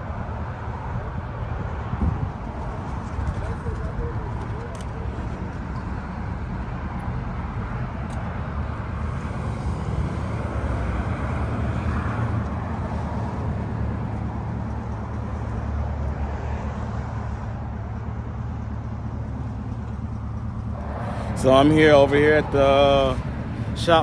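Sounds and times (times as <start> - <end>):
car engine: 0.0 - 24.0
road noise: 0.0 - 24.0.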